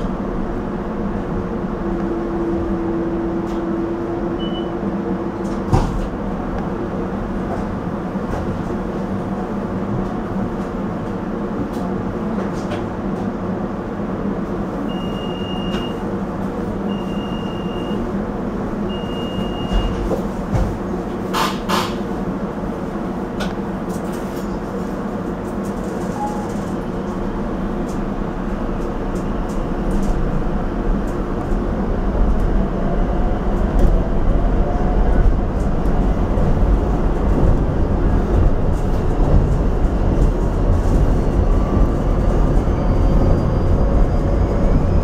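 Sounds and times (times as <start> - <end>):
wheels rumbling on rail: 0.0 - 45.0.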